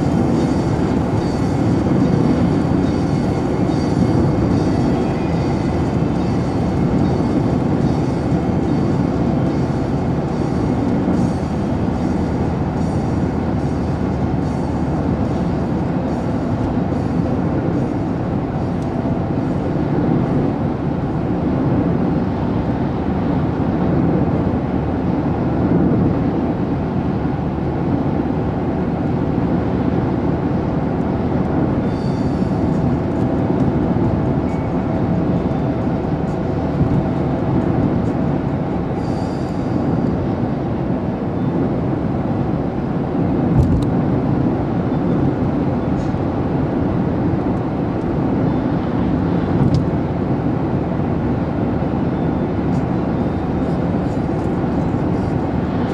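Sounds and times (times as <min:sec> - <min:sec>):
road and engine noise in car: 0:00.0 - 0:55.9.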